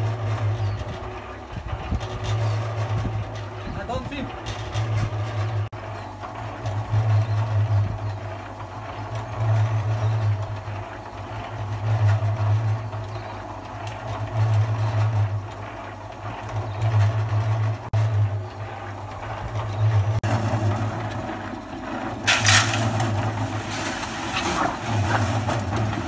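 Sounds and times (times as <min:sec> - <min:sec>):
concrete mixer motor humming: 0:00.0 - 0:26.0.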